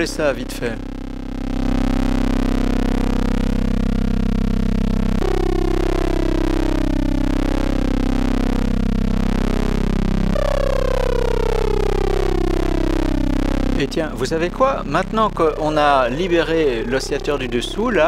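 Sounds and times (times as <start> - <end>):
buzzy synthesizer drone: 0.0 - 18.0.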